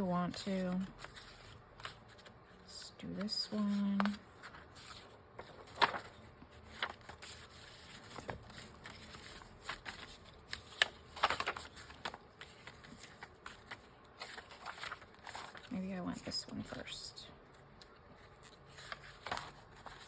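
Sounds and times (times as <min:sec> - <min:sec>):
paper rustling: 0:00.0 - 0:16.9, 0:17.5 - 0:20.0.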